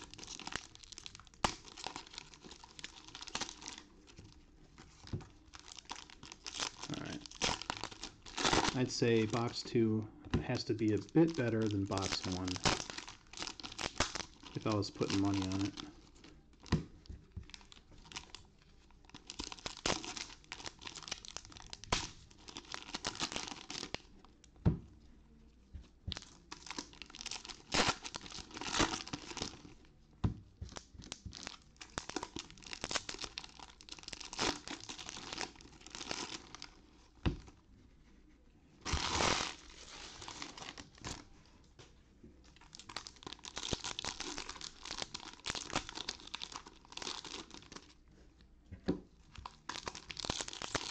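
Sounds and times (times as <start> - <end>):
foil wrappers crinkling and tearing: 0.0 - 4.1, 4.8 - 9.7, 10.5 - 24.2, 26.1 - 29.8, 30.7 - 37.0, 38.8 - 41.3, 42.5 - 48.0, 49.4 - 50.9.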